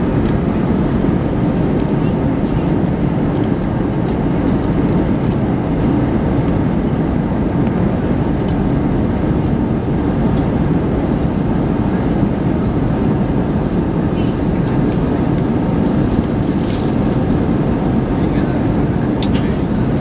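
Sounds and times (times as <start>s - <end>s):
airplane cabin engine roar: 0.0s - 20.0s.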